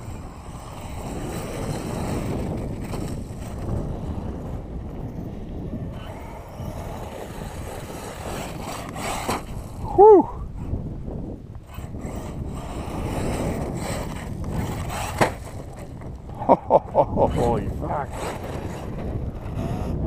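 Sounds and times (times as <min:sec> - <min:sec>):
electric toy truck on gravel: 0:00.0 - 0:20.0
wind buffeting microphone: 0:00.0 - 0:20.0.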